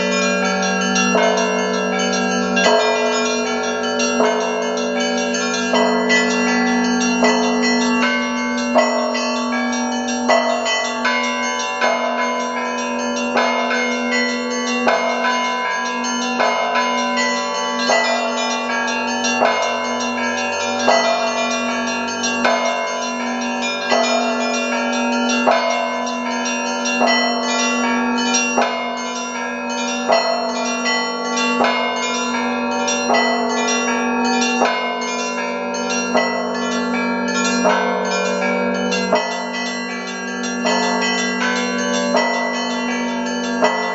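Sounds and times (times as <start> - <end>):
hand-rung church bells: 0.0 - 43.9
low hum of large bell: 0.0 - 43.9.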